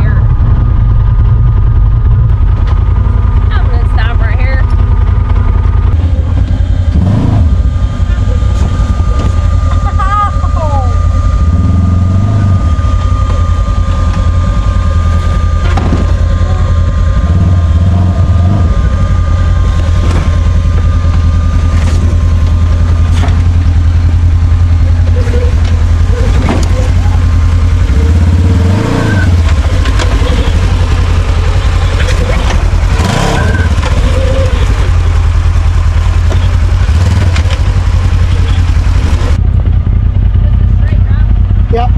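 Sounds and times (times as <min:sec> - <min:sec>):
utility vehicle engine running: 0:00.0 - 0:41.9.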